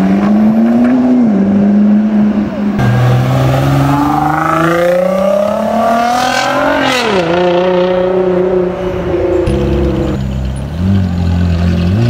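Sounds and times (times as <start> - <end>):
sports car engine revving: 0.0 - 10.2.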